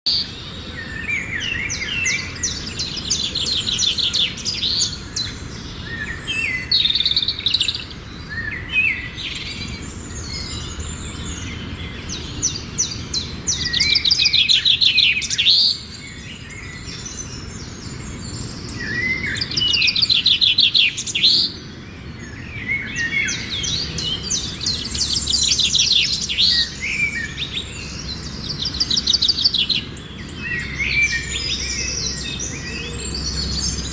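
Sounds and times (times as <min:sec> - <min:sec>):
songbird trills and chirps: 0:00.1 - 0:33.9.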